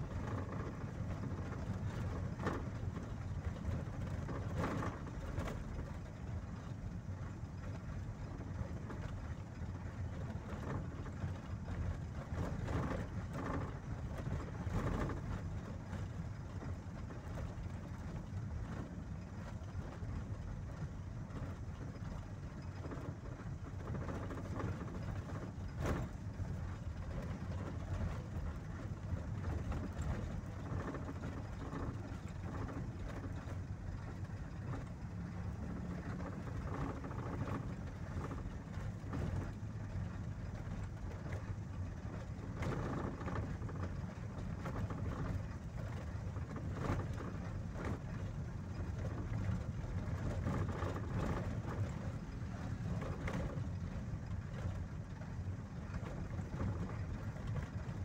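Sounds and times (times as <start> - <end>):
engine and tyre rumble: 0.0 - 58.0.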